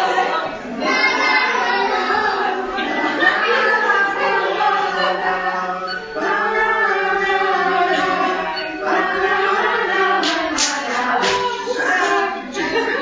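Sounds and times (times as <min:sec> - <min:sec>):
children singing in chorus: 0:00.0 - 0:13.0.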